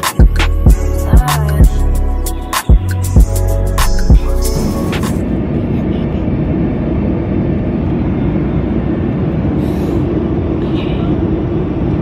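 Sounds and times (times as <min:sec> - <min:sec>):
airliner cabin engine drone: 0:00.0 - 0:12.0.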